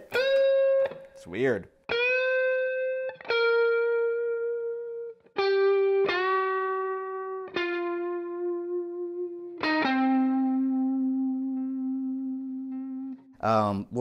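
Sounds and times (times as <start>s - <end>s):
clean electric guitar notes: 1.9s - 13.3s.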